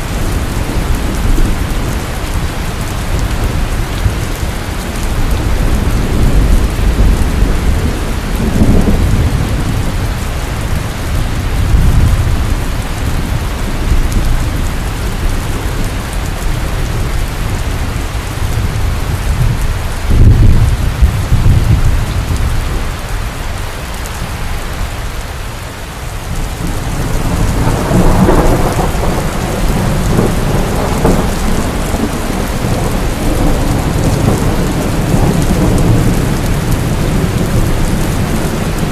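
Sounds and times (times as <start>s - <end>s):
thunder rumbling: 0.0s - 23.2s, 26.2s - 38.9s
heavy rain: 0.0s - 38.9s.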